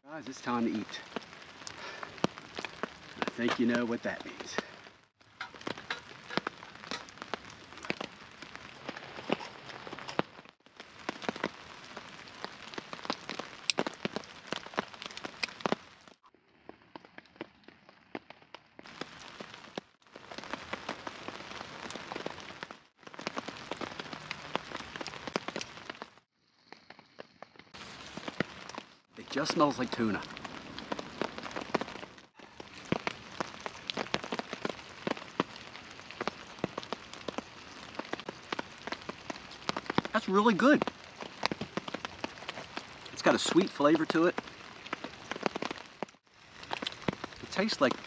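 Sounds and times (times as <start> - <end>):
sharp raindrop impacts: 0.0 - 48.0
steady rain falling: 0.0 - 48.0.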